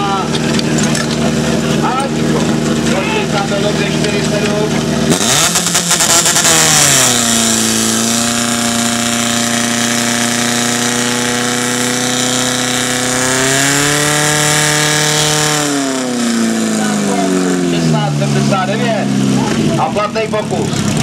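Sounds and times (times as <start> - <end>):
pump engine running hard: 0.0 - 21.0.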